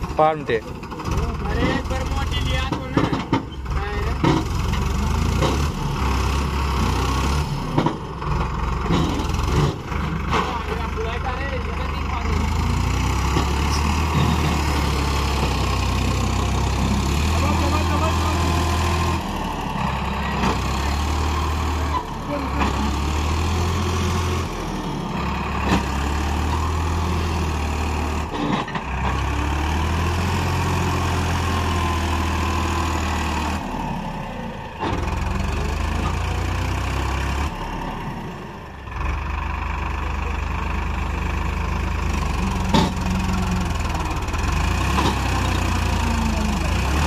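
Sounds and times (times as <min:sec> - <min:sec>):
tractor diesel engine humming: 0:00.0 - 0:47.0.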